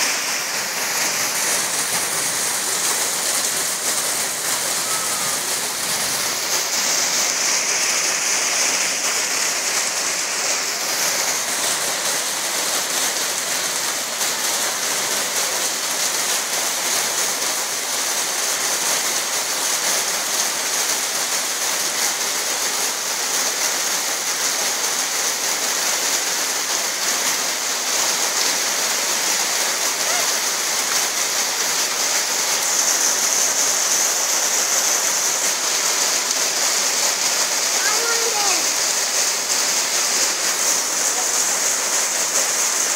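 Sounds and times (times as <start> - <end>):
steady rain: 0.0 - 42.9
water pouring from a drainpipe: 0.0 - 42.9.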